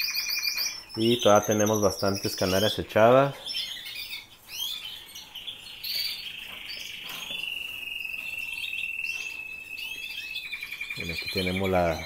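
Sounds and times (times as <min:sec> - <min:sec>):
canaries chirping: 0:00.0 - 0:12.0
canary singing high trill: 0:00.0 - 0:12.0.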